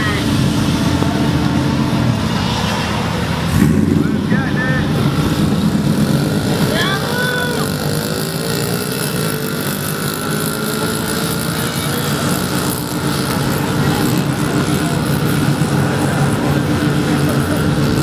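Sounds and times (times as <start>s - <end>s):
small motorcycle engines buzzing: 0.0s - 18.0s.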